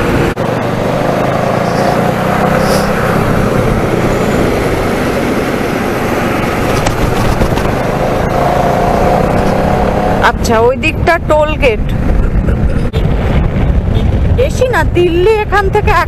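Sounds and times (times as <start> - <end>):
motorcycle engine running: 0.0 - 14.4
wind rushing on microphone: 0.0 - 16.0.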